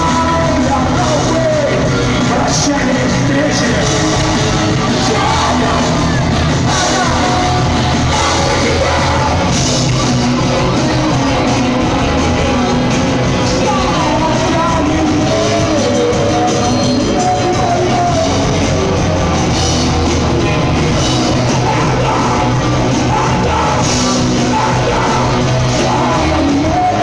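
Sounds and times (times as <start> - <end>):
drums: 0.0 - 27.0
electric guitars: 0.0 - 27.0
keyboards: 0.0 - 27.0.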